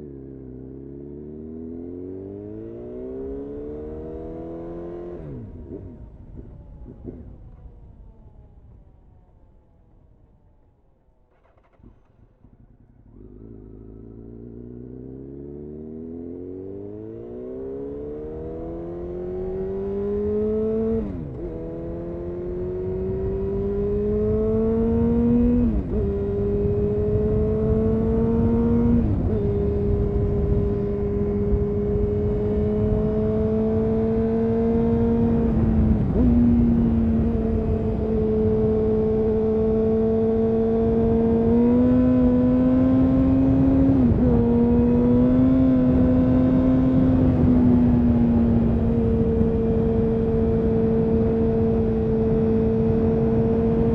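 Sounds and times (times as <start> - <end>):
motorcycle engine under way: 0.0 - 9.5, 10.2 - 53.9.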